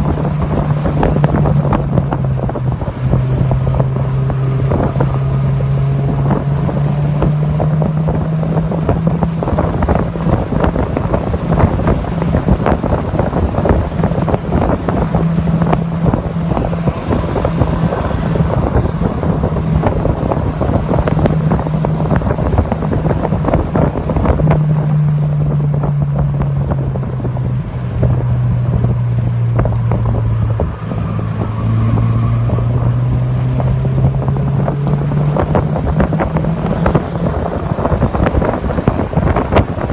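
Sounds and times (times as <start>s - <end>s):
car engine running hard: 0.0s - 39.9s
wind buffeting on microphone: 0.0s - 39.9s.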